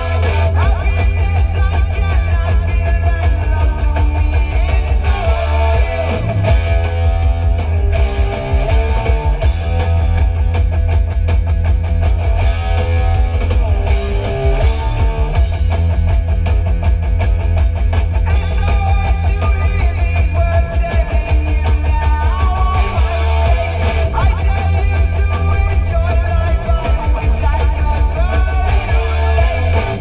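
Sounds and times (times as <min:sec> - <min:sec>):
heavy rock music: 0:00.0 - 0:30.0.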